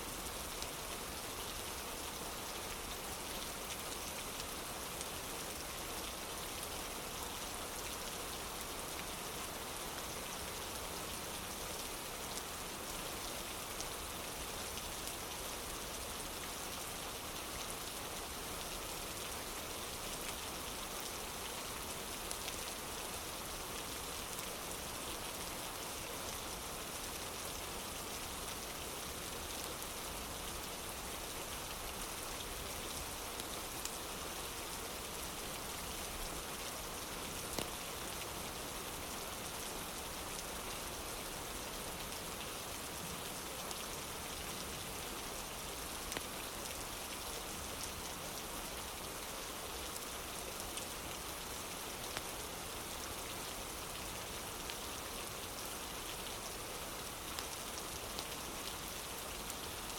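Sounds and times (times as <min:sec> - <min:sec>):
rain on a wooden porch: 0:00.0 - 0:59.9.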